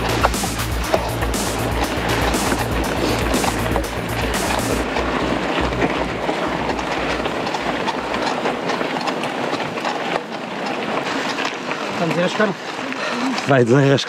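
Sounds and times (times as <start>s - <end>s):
low rumble: 0.0s - 11.5s
bike frame rattling: 0.0s - 14.0s
tyres rolling on dirt: 0.0s - 14.0s.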